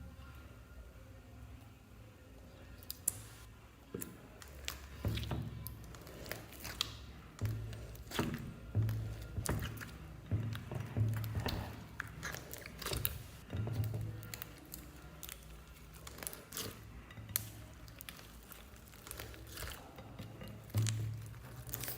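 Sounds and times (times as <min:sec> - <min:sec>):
background music: 0:00.0 - 0:21.9
slime crackling and popping: 0:02.8 - 0:21.9.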